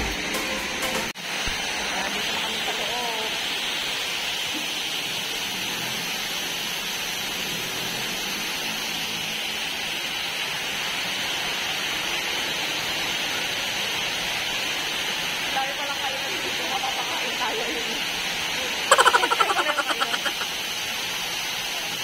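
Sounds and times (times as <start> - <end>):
fountain water splashing: 1.2 - 22.0.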